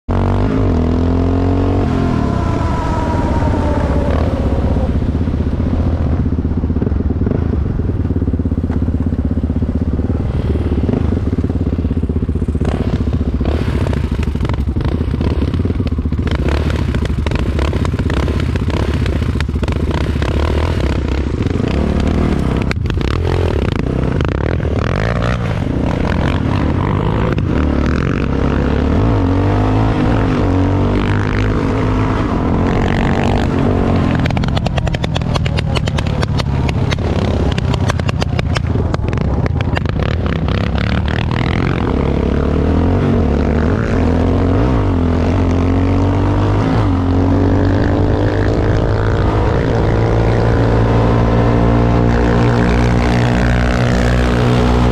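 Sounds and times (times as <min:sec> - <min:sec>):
quad engine running: 0:00.1 - 0:54.9.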